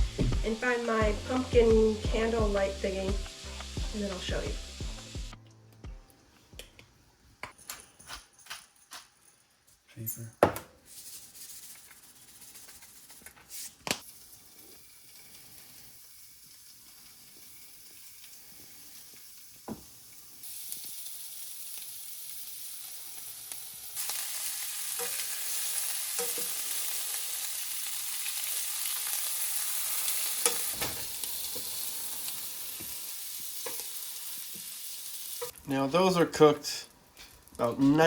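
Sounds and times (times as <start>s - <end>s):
prawns sizzling in a pan: 0.5s - 5.4s, 11.0s - 38.0s.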